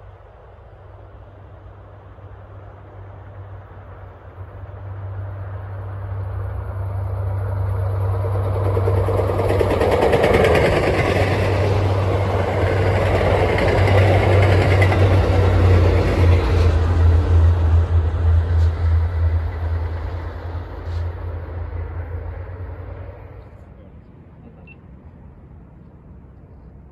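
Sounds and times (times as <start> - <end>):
train rumble and rail noise: 0.0 - 26.9.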